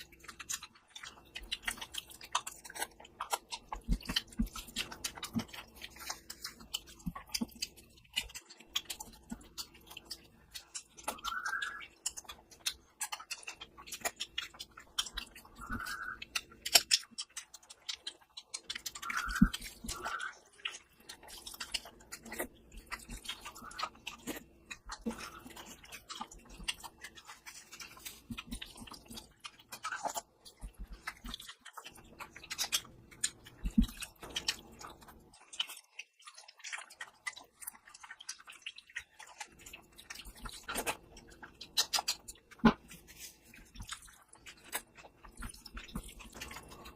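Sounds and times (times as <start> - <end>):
close chewing with mouth clicks: 0.0 - 46.9.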